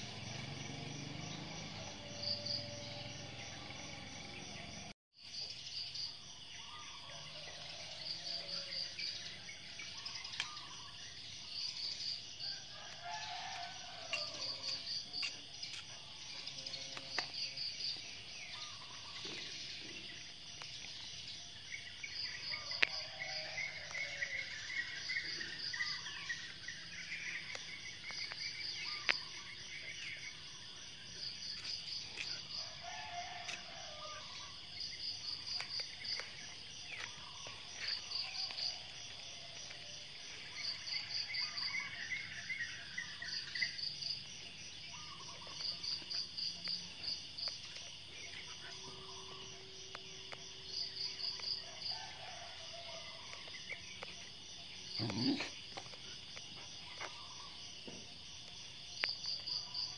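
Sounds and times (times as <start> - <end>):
insects chirping in pulsed trills: 0.0 - 59.9.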